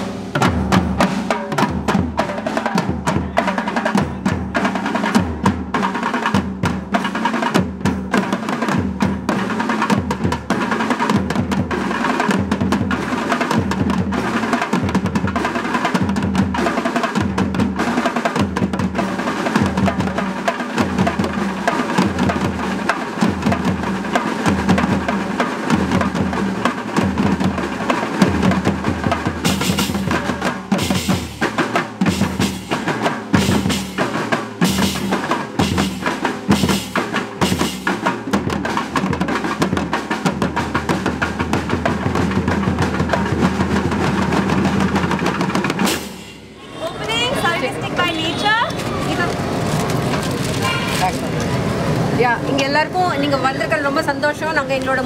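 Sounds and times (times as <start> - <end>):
heavy low drum beat: 0.0 - 46.4
barrel drum: 0.0 - 46.5
percussion ensemble playing: 0.0 - 55.0.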